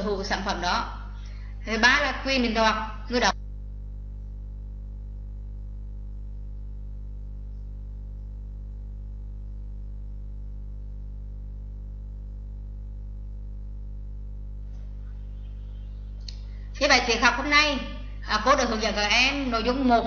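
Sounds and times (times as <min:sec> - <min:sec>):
low electrical mains hum: 0:00.0 - 0:20.0.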